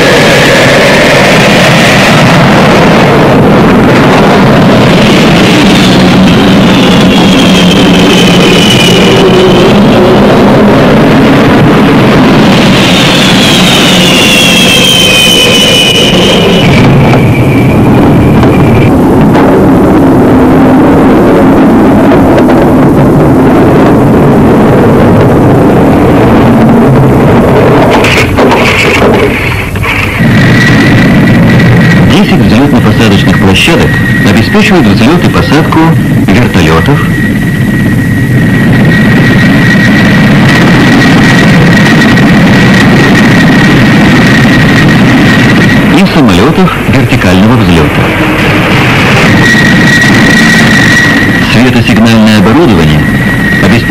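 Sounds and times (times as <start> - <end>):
helicopter turbine whine: 0.0 - 53.9
jet engine roar: 0.0 - 53.9
wind noise: 0.0 - 53.9.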